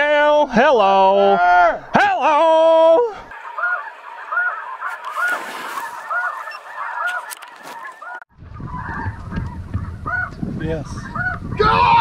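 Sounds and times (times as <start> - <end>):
geese honking: 1.2 - 11.9.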